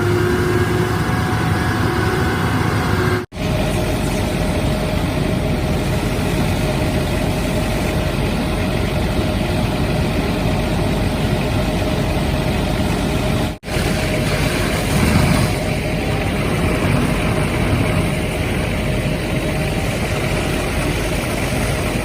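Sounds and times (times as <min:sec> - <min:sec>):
constant rushing noise: 0:00.0 - 0:22.0
fire engine running: 0:00.0 - 0:22.0
steady hum: 0:00.0 - 0:22.0.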